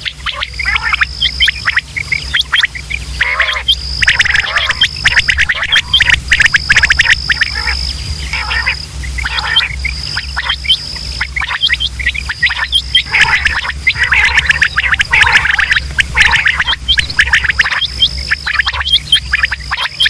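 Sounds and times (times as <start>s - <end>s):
low hum: 0.0s - 20.0s
quail calling in chorus: 0.0s - 20.0s
steady high tone: 3.0s - 20.0s.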